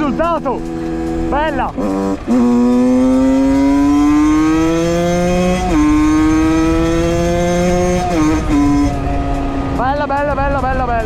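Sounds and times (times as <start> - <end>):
two-stroke engine accelerating: 0.0 - 11.0.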